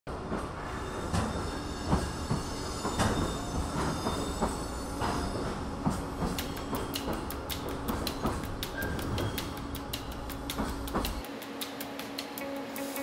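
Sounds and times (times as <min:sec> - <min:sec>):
train rumbling: 0:00.1 - 0:11.4.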